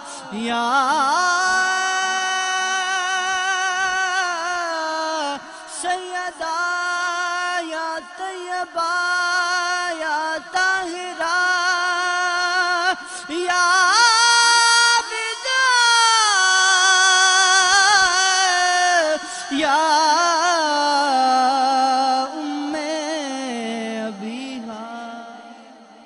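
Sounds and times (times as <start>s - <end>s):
person singing wordless melody: 0.0s - 26.0s.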